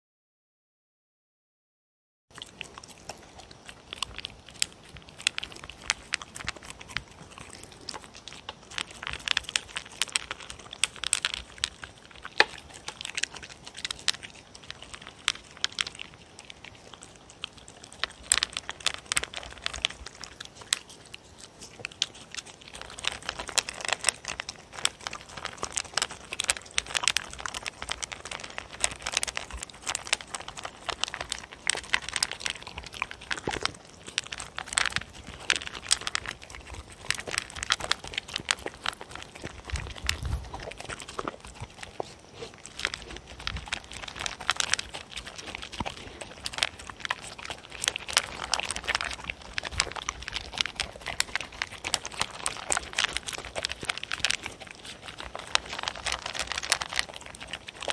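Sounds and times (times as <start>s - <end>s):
dog crunching dry kibble: 2.3s - 57.9s
second dog eating: 2.3s - 57.9s.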